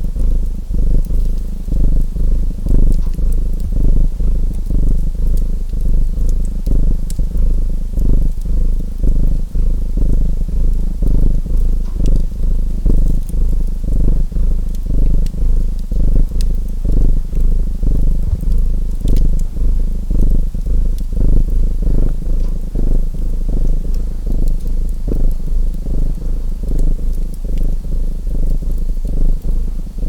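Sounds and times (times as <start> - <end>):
cat purring: 0.0 - 30.0
wood fire crackling: 0.0 - 30.0.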